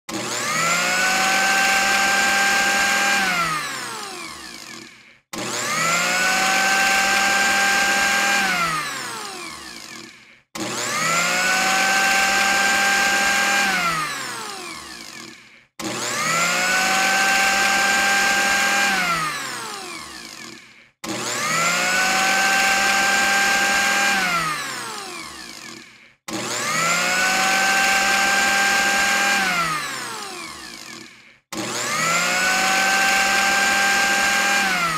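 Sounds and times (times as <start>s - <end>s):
electric blender motor running: 0.1s - 34.9s.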